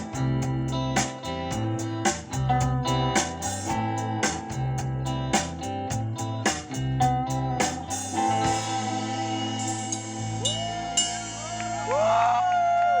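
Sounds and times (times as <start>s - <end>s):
bending guitar notes: 0.0s - 12.0s
band with guitar and drums: 0.0s - 13.0s.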